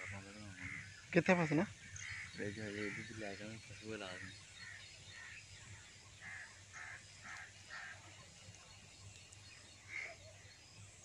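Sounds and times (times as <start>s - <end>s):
bird calling: 0.0s - 10.7s.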